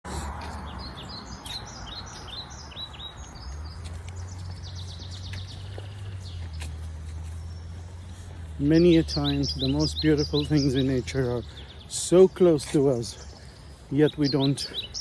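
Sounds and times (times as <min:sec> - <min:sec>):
songbirds chirping and trilling: 0:00.1 - 0:15.0.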